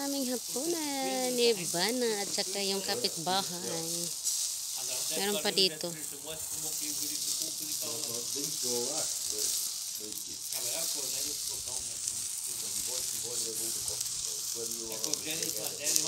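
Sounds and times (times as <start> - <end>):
meat sizzling on a grill: 0.0 - 16.0
voices talking in background: 0.0 - 16.0.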